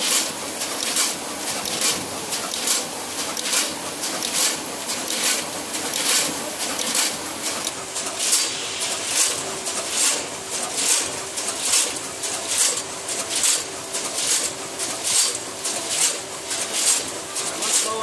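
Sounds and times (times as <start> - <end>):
packaging machine running: 0.0 - 18.0.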